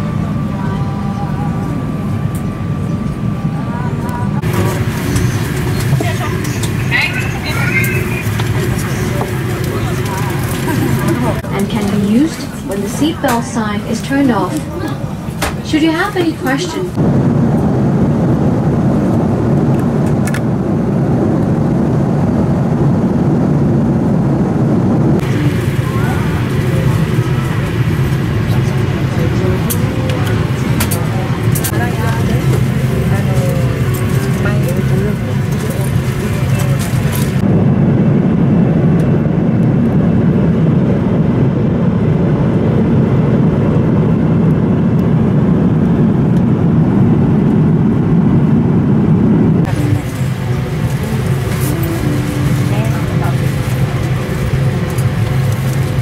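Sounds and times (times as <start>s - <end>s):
aircraft cabin engine roar: 0.0s - 56.0s.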